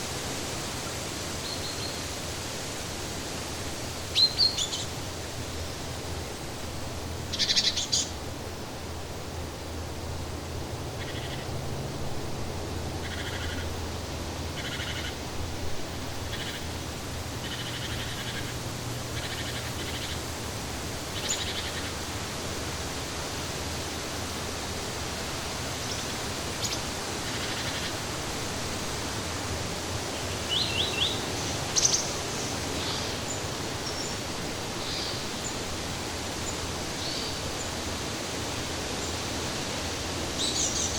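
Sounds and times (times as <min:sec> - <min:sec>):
steady rushing hiss: 0:00.0 - 0:40.9.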